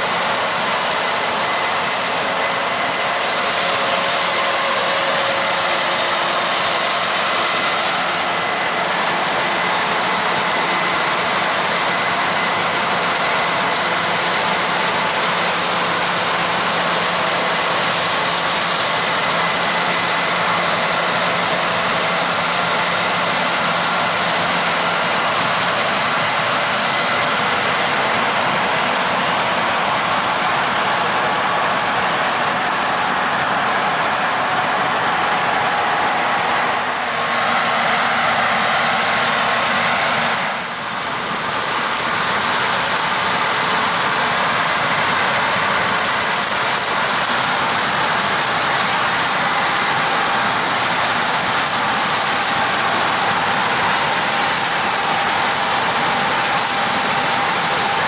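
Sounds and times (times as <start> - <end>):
combine harvester drone: 0.0 - 58.0.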